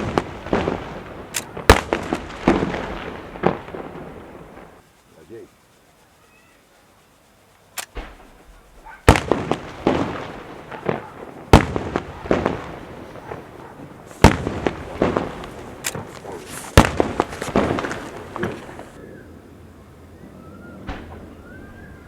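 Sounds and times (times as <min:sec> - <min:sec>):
fireworks banging: 0:00.0 - 0:06.0, 0:07.2 - 0:19.0, 0:20.8 - 0:21.9
fireworks crackling: 0:00.0 - 0:19.6.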